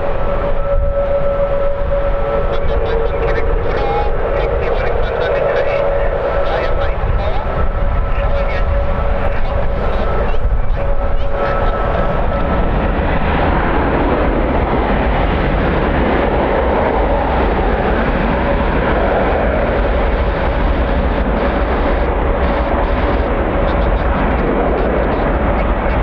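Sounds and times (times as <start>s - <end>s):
jet engines running: 0.0s - 26.0s
wind buffeting microphone: 0.0s - 26.0s.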